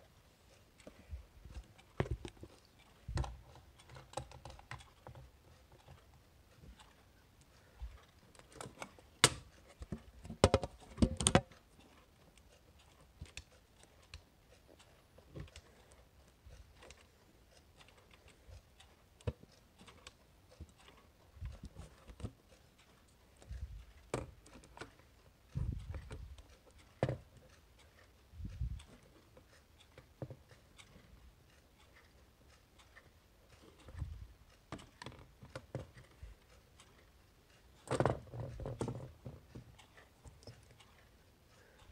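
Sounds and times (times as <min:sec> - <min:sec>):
sharp clock clicks: 0:00.6 - 0:41.9.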